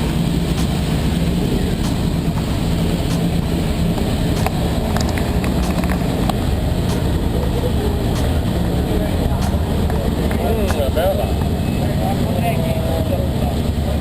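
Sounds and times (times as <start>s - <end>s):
car interior low rumble: 0.0s - 14.0s
constant low tone: 0.0s - 14.0s.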